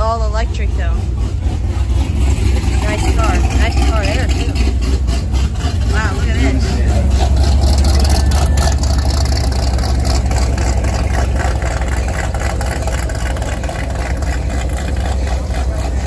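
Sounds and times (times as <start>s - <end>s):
car engine pulling away: 0.0s - 16.0s.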